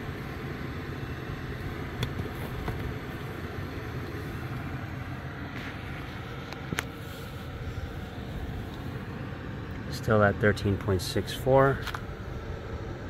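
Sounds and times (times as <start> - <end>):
electric kettle rumbling: 0.0 - 13.0.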